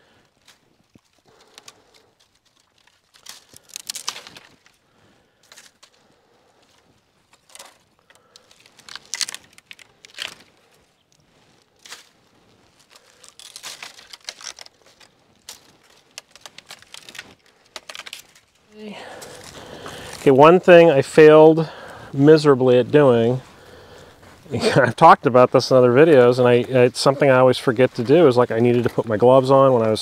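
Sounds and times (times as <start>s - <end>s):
dry wood cracking and tearing: 0.0s - 30.0s.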